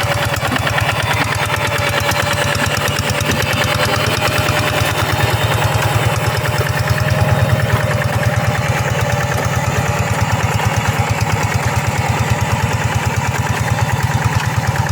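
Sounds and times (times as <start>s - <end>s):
diesel engine chugging: 0.0s - 14.9s.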